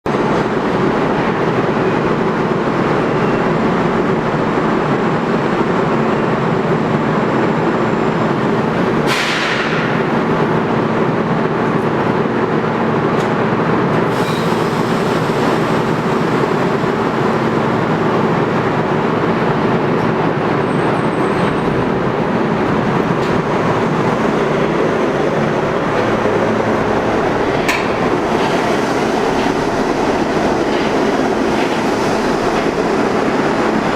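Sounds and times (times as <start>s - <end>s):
subway train running: 0.0s - 33.9s.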